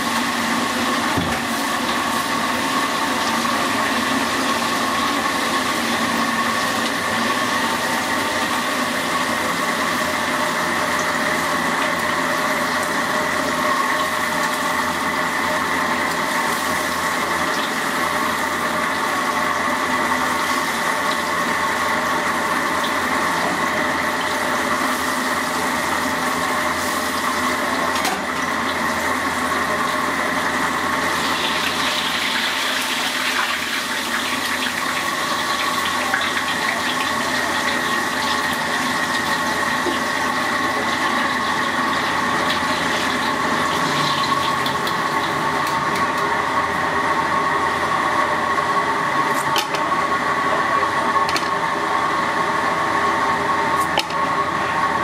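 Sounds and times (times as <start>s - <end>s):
sizzling and bubbling oil: 0.0s - 50.2s.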